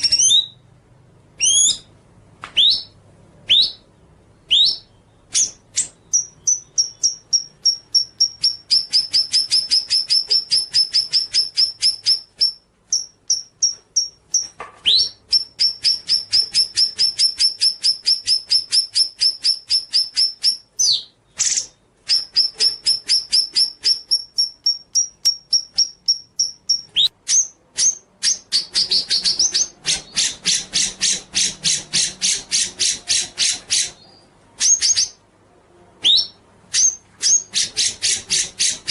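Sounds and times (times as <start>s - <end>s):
songbird whistling song: 0.0s - 0.7s, 1.4s - 35.2s, 36.0s - 38.9s.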